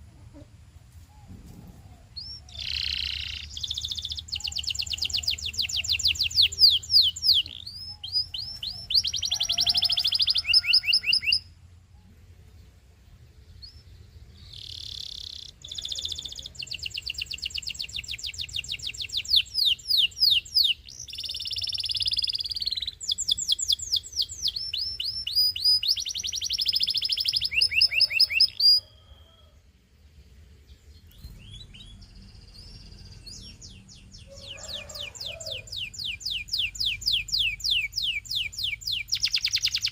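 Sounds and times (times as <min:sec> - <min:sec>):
canary singing trills: 0:01.2 - 0:11.9, 0:13.2 - 0:29.6, 0:30.6 - 0:39.9.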